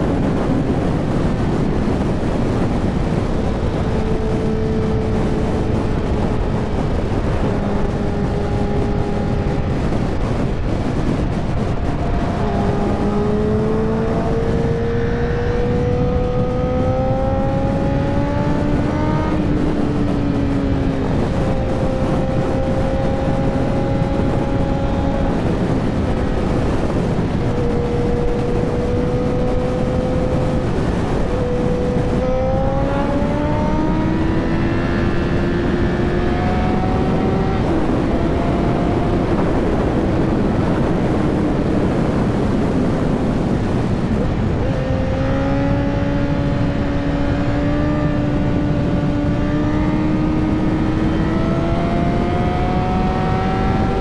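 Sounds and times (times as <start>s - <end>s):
motorcycle engine accelerating: 0.0s - 54.0s
steady rush of noise: 0.0s - 54.0s.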